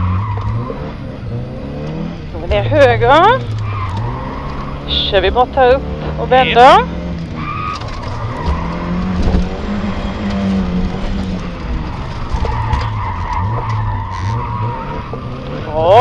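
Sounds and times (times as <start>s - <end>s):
rally car engine revving: 0.0s - 16.0s
tyres skidding: 0.0s - 16.0s.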